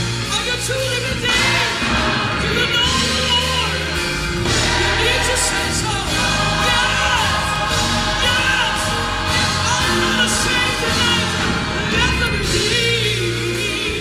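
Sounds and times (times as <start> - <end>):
sustained bass notes: 0.0 - 14.0
choir singing: 1.1 - 14.0.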